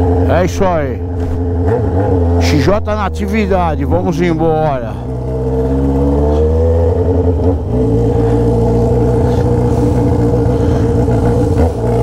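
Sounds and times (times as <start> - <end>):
unmuffled motorcycle engine pulling away: 1.1 - 3.5, 4.1 - 12.0.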